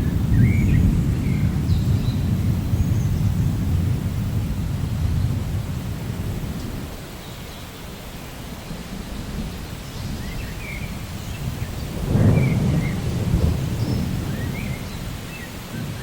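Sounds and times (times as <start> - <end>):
distant thunder rumbling: 0.0 - 7.1, 8.5 - 16.0
steady rain: 0.0 - 16.0.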